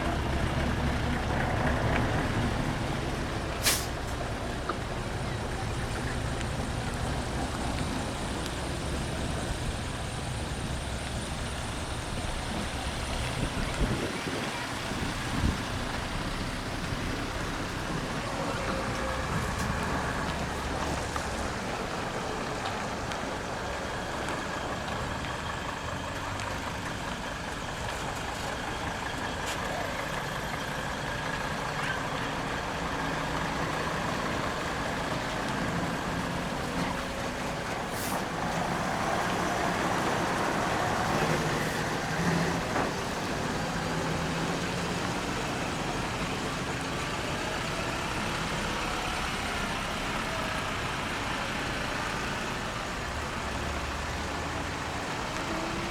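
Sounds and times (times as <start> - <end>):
truck diesel engine rumbling: 0.0 - 55.9.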